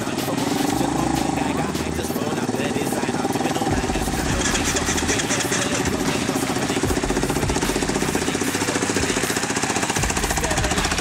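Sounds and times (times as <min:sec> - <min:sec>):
quad bike engine idling: 0:00.0 - 0:11.0.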